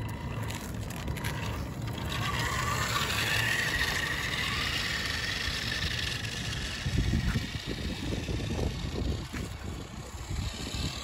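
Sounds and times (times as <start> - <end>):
rc car motor whining: 0.0 - 11.0
tyres rumbling on pavement: 0.0 - 11.0.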